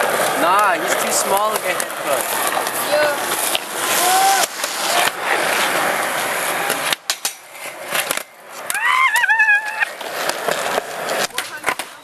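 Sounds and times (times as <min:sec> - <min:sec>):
skateboard clicks: 0:00.0 - 0:12.0
skateboard wheels rolling on concrete: 0:00.0 - 0:12.0.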